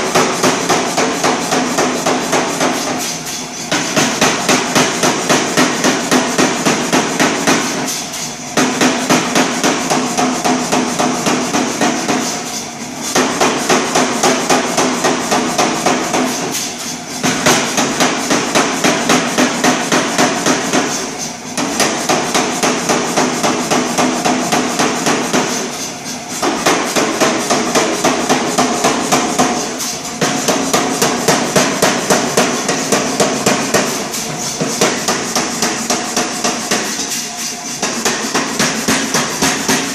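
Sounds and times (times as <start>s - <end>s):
air hammer striking hot steel: 0.0s - 39.9s.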